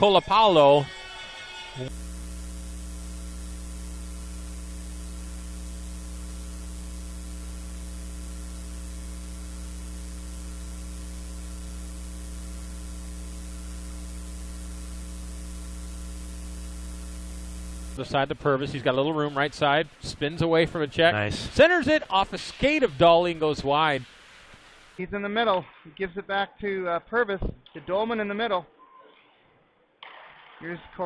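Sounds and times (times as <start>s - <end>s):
electrical mains hum: 0.0s - 25.5s.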